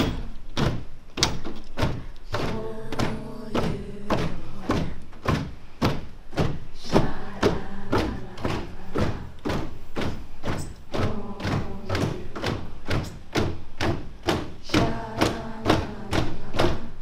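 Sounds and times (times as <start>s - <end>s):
rhythmic loud thumps: 0.0s - 17.0s
people singing a tune: 1.8s - 17.0s.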